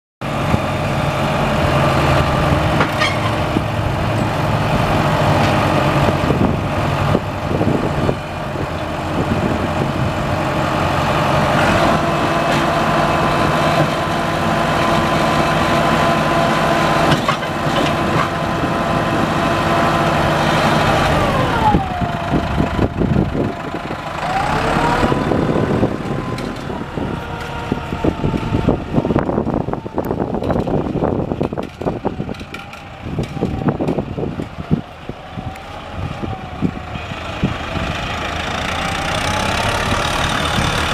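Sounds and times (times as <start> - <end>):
tractor diesel engine running: 0.2 - 40.9.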